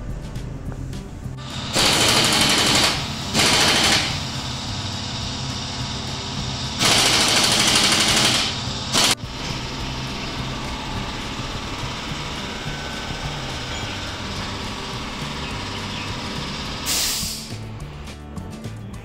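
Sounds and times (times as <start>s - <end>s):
pneumatic impact wrench rattling: 1.4s - 17.7s.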